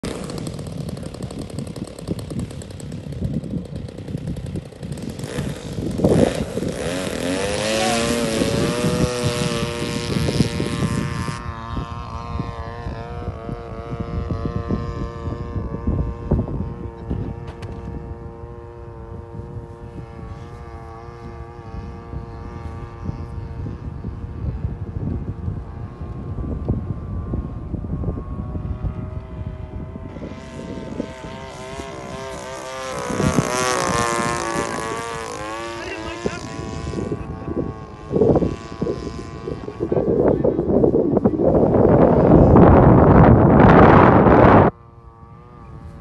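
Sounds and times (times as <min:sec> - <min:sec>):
model airplane motor and propeller: 0:00.0 - 0:46.0
wind noise on microphone: 0:00.0 - 0:46.0.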